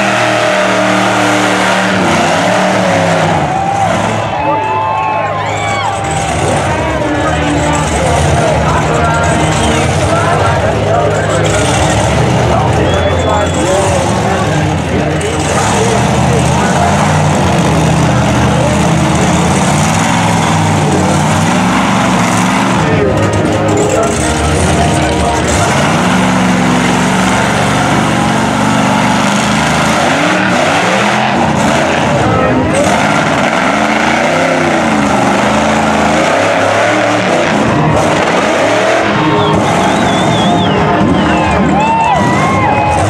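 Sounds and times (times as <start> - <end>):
truck engine under load: 0.0 - 43.0.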